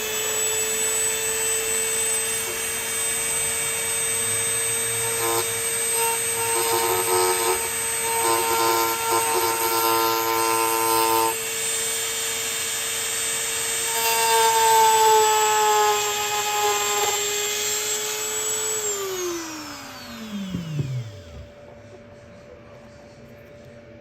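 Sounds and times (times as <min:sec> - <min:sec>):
power tool motor whining: 0:00.0 - 0:21.6.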